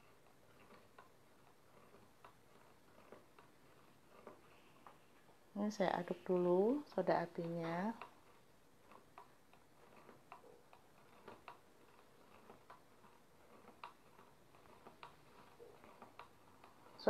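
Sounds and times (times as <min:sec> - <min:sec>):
stirrer clicking against container: 0:00.0 - 0:17.0.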